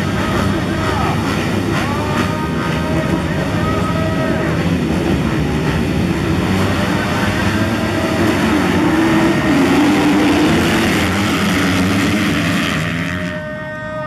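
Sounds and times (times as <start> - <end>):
dirt bike engines revving: 0.0 - 13.8.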